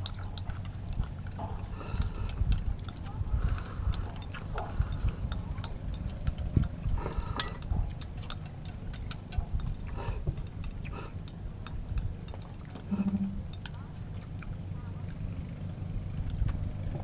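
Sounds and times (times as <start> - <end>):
light clicks and clinks: 0.0 - 14.1
low rumble: 0.0 - 17.0.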